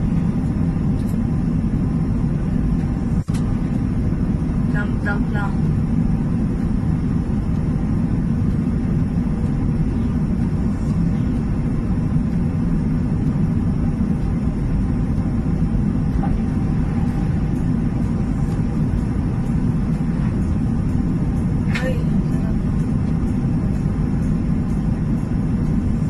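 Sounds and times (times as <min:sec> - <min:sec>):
jet airliner cabin drone: 0:00.0 - 0:26.0.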